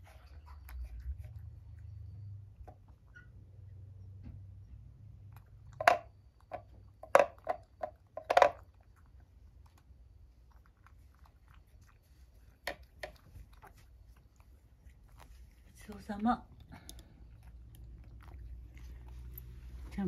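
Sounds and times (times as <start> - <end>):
cat licking and chewing: 0.0 - 20.0.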